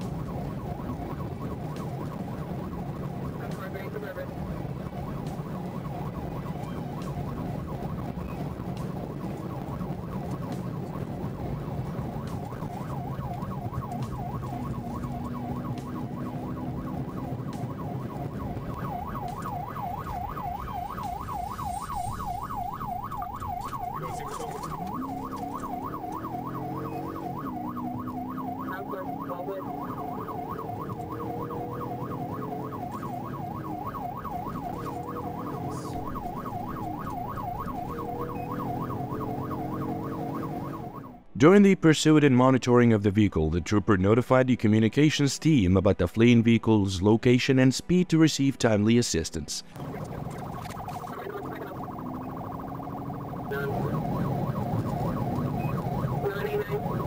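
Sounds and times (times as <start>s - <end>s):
car engine: 0.0s - 41.4s, 49.7s - 57.0s
police siren wailing: 0.0s - 41.4s, 49.7s - 57.0s
road noise: 0.0s - 42.3s, 44.3s - 57.0s.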